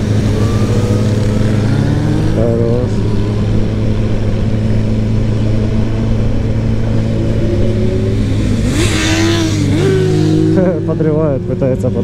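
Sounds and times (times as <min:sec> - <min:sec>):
motorcycle engine revving: 0:00.0 - 0:12.0
motorcycle engines idling: 0:00.0 - 0:12.0.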